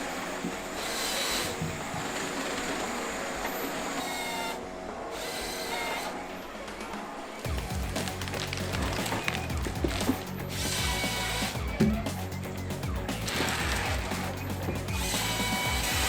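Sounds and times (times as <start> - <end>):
engine and hydraulic noise: 0.0 - 16.0.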